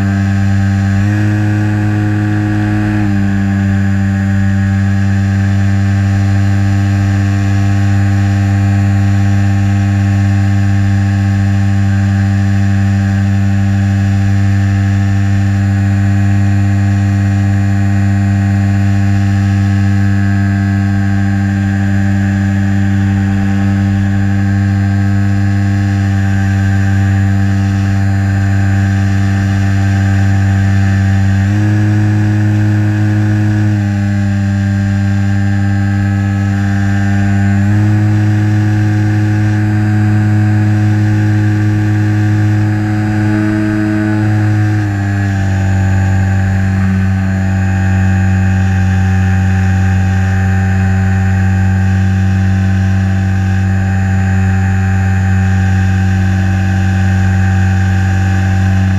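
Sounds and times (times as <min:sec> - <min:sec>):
electric propeller motor whine: 0:00.0 - 0:58.9.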